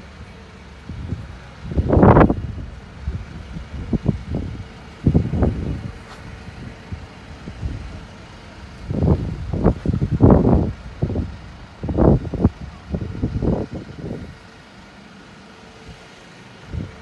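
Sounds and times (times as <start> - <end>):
wind buffeting microphone: 0.2 - 14.5, 16.6 - 17.0.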